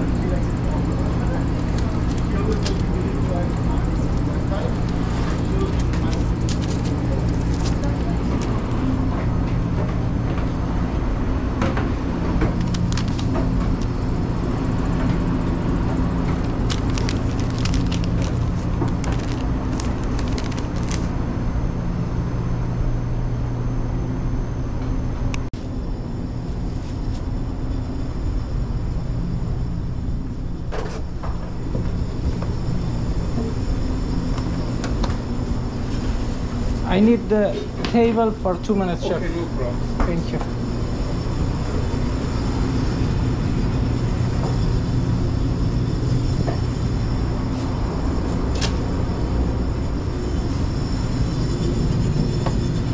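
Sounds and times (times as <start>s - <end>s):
kitchen fans and motors humming: 0.0s - 52.9s.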